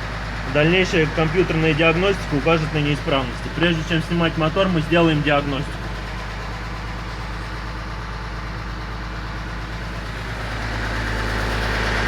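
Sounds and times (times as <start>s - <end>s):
car engine running: 0.0s - 12.0s
fast even engine knocking: 0.0s - 12.0s.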